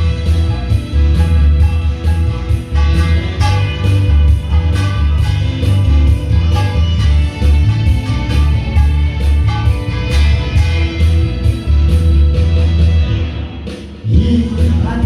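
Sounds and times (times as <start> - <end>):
instrumental backing track: 0.0 - 14.0.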